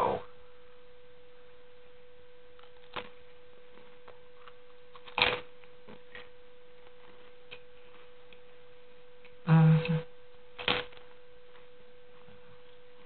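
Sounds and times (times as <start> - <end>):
high electrical hum: 0.0 - 13.0.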